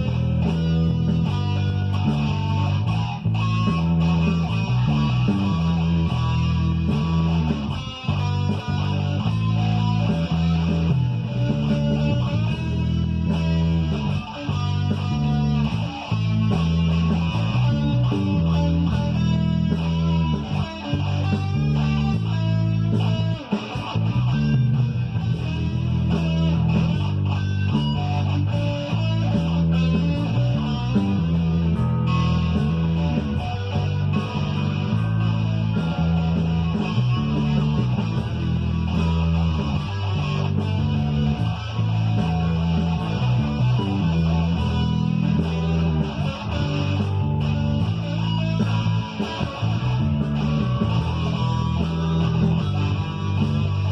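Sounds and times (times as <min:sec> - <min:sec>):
electric guitar over rock backing: 0:00.0 - 0:53.9.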